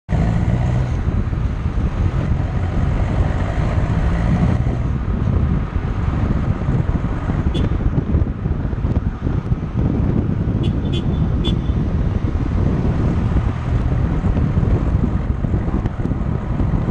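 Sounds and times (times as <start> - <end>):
diesel engine drone: 0.0 - 16.9
tyre and road noise: 0.0 - 16.9
wind buffeting microphone: 0.1 - 16.9.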